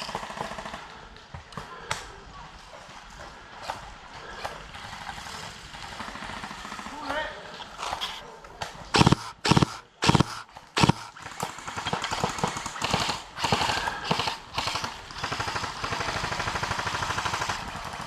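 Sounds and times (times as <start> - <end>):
airsoft guns firing rapidly: 0.0 - 2.0, 3.6 - 18.0.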